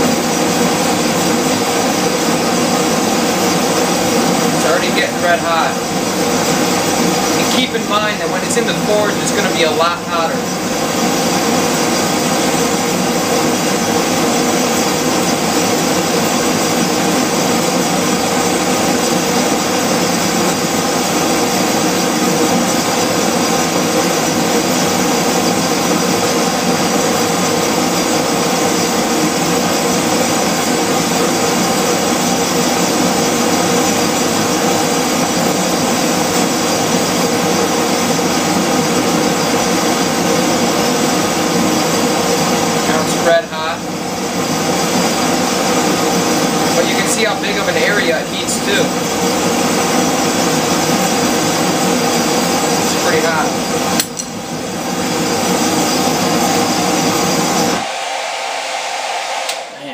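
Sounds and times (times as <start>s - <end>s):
forge burner rushing: 0.0s - 59.9s.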